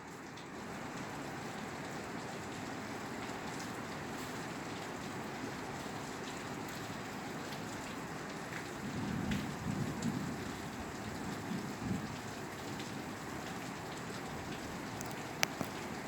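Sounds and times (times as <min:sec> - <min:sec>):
rain on a roof: 0:00.0 - 0:16.0.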